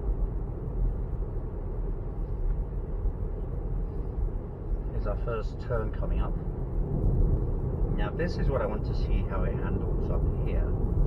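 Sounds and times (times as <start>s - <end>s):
road and tyre rumble inside car: 0.0s - 11.0s.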